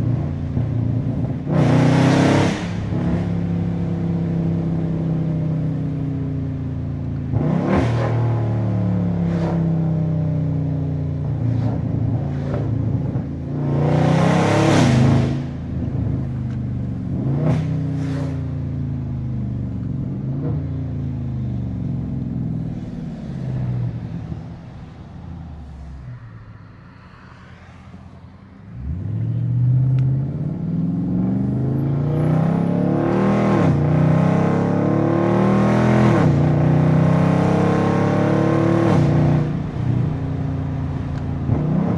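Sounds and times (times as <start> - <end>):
car exhaust under hard acceleration: 0.0 - 41.9.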